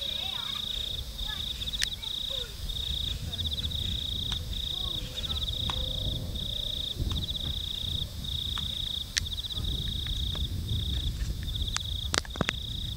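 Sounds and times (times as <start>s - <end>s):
insects trilling: 0.0s - 12.9s
low rumble: 0.0s - 12.9s.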